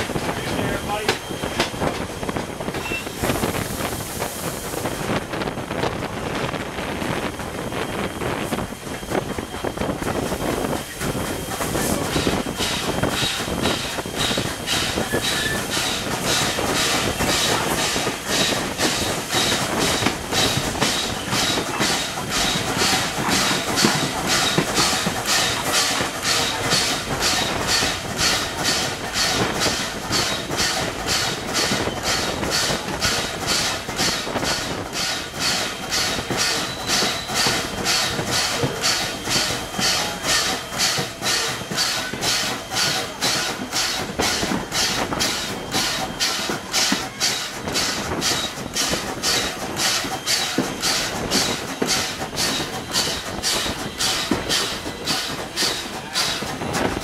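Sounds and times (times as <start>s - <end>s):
rhythmic locomotive beat: 0.0s - 57.0s
steam hiss: 0.0s - 57.0s
train wheels rumbling on rail: 0.0s - 57.0s.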